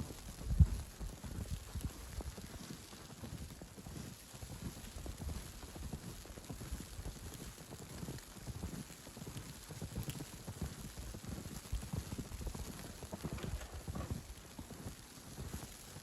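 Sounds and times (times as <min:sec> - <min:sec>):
footsteps in snow: 0:00.2 - 0:16.0.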